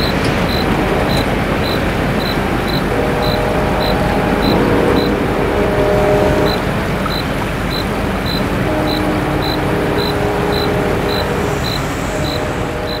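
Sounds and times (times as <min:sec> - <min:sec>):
loud steady rumble: 0:00.0 - 0:13.0.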